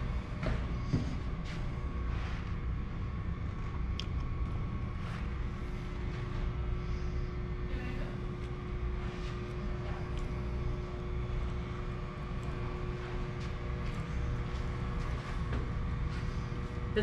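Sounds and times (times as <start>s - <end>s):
ventilation fans humming: 0.0s - 17.0s.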